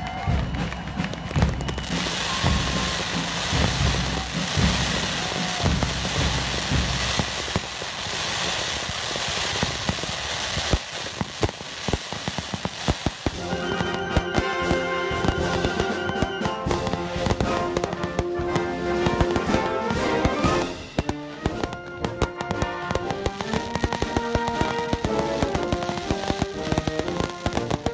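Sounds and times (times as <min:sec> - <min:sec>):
fireworks bangs: 0:00.0 - 0:27.9
fireworks crackling: 0:00.0 - 0:27.9.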